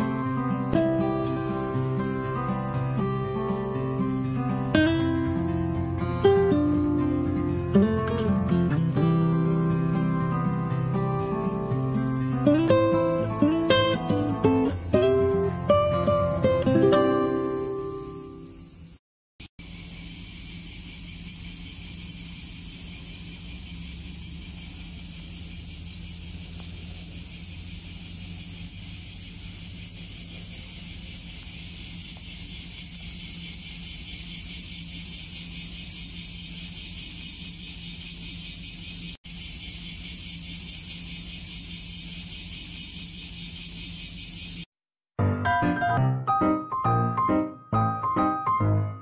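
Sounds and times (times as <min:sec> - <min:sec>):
cicadas buzzing: 0:00.0 - 0:19.0, 0:19.6 - 0:44.7.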